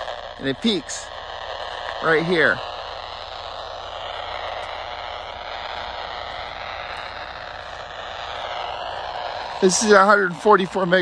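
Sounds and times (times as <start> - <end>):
radio static hissing: 0.0 - 11.0.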